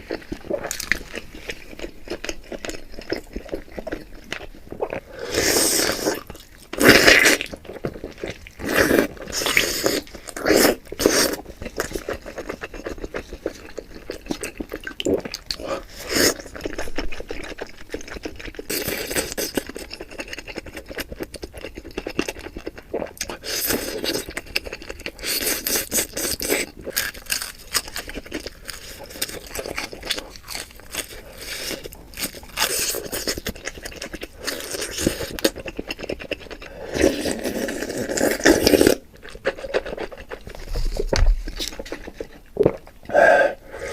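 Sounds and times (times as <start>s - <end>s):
person biting and chewing: 0.1s - 43.9s.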